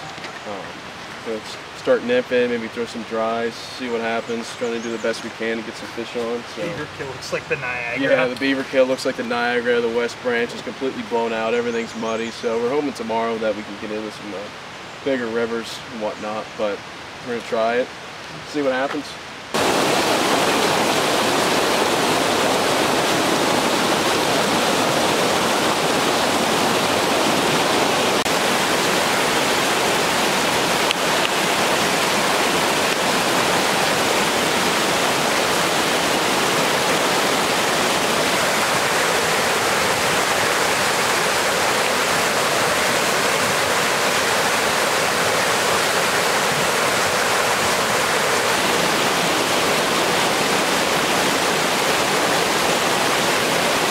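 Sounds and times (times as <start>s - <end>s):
brook water rushing: 0.0s - 53.9s.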